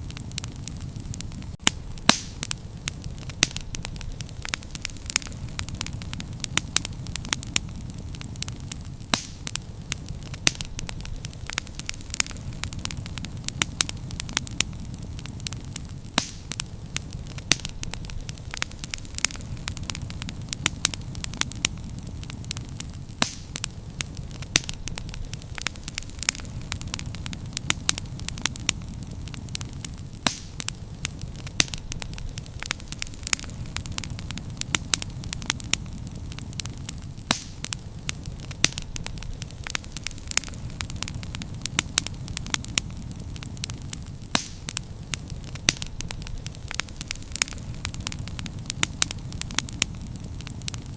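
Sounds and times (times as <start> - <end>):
bonfire crackling and popping: 0.0 - 50.9.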